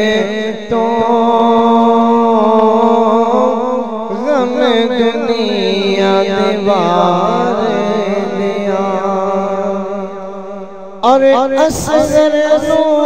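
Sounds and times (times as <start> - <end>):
man singing a lament: 0.0 - 13.0.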